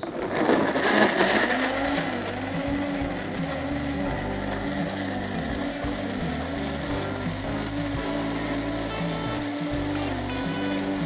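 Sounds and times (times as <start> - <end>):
blender motor running: 0.0 - 11.0
ice clattering in blender: 0.0 - 11.0.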